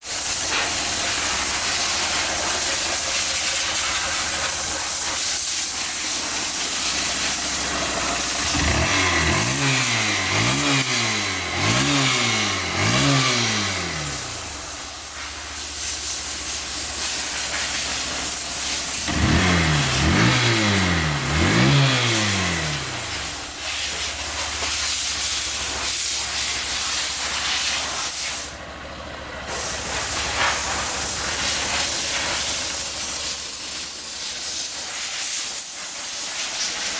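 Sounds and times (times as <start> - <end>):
loud steady hiss: 0.0 - 28.6, 29.5 - 36.9
motorcycle engine idling and revving: 0.0 - 36.9.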